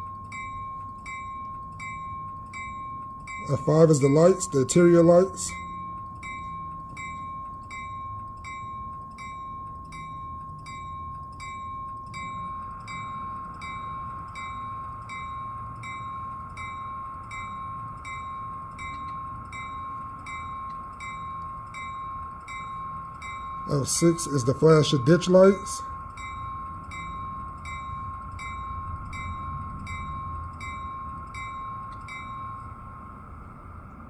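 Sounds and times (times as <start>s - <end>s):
bell-like chime dinging: 0.0s - 33.8s
constant high whine: 0.0s - 34.0s.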